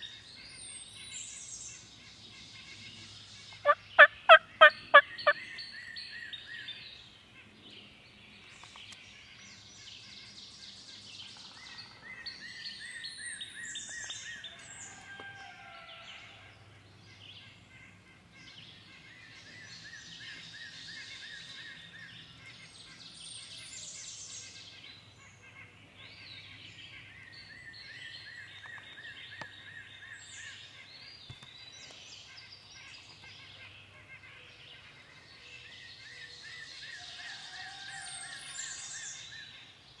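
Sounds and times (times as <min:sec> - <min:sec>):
songbirds singing: 0:00.0 - 0:40.0.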